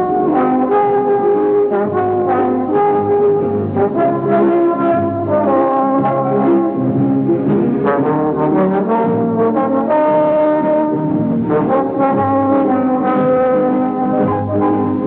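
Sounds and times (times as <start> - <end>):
brass music playing: 0.0 - 15.0.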